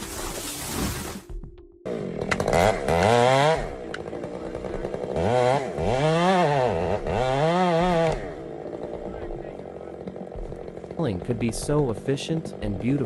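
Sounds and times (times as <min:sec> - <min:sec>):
chainsaw engine revving: 0:01.9 - 0:13.0.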